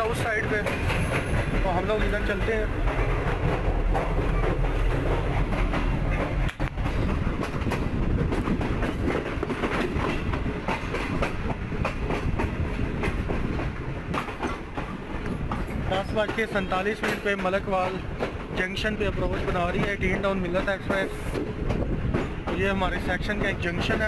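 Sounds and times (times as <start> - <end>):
train wheels clacking over rail joints: 0.0 - 24.0.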